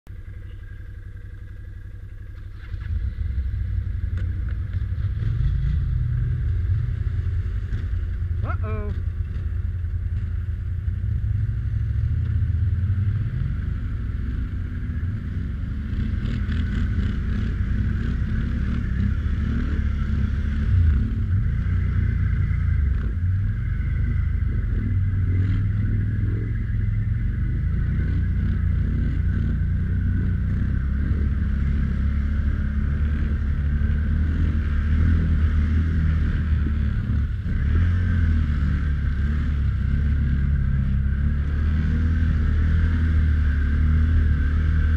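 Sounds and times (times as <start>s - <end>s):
atv engine rumbling: 0.0s - 44.9s.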